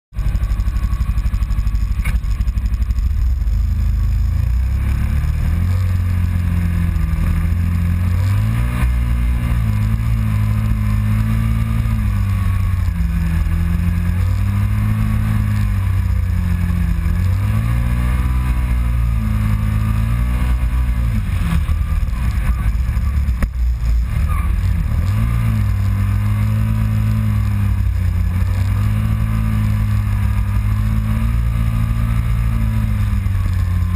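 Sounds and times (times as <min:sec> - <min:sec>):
engine running under load: 0:00.2 - 0:33.9.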